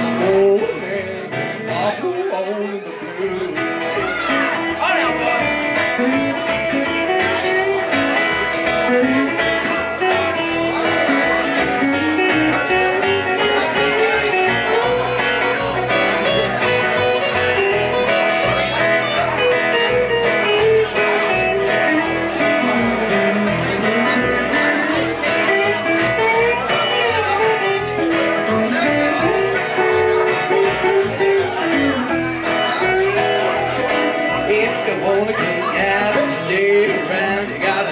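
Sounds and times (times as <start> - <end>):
picked electric guitar lead: 0.0 - 37.9
strummed acoustic guitar: 0.0 - 37.9
upright bass: 0.0 - 37.9.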